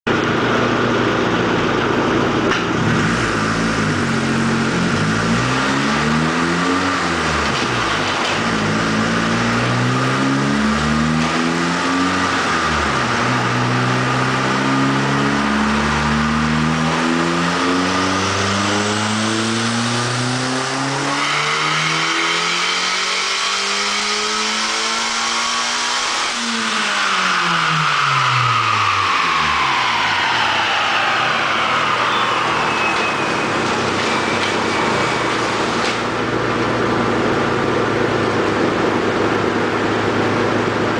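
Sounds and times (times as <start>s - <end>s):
car engine revving: 0.1s - 40.9s.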